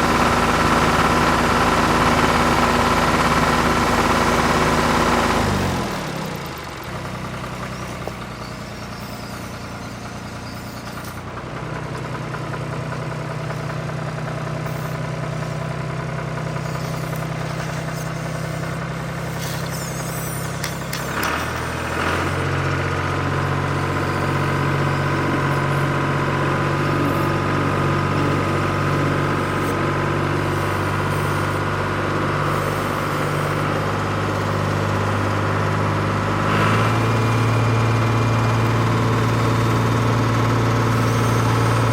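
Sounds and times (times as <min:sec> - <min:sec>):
model engine idling and revving: 0:00.0 - 0:41.9.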